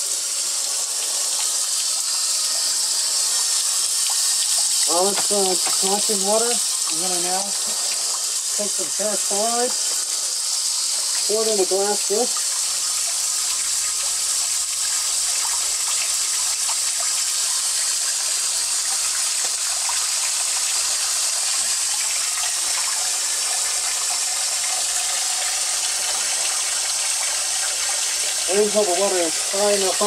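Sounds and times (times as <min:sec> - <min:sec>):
tap water gushing into sink: 0:00.0 - 0:30.0.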